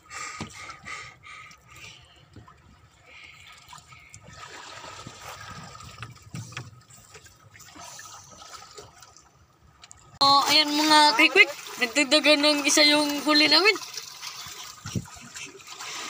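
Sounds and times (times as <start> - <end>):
water trickling and sloshing: 0.0 - 16.0.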